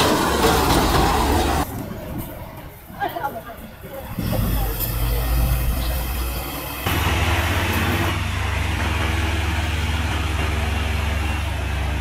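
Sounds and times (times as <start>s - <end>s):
heavy truck engine running: 0.0s - 2.8s, 4.0s - 12.0s
tractor engine running: 0.0s - 2.8s, 4.1s - 12.0s.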